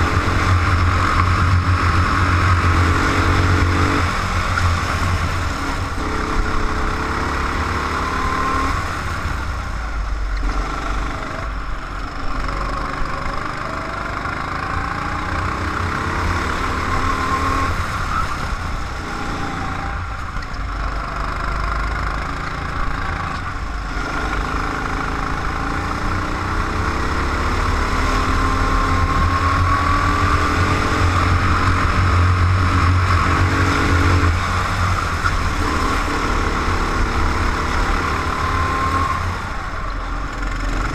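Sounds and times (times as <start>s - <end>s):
go-kart engine accelerating: 0.0s - 40.9s
wind and road noise: 0.0s - 40.9s.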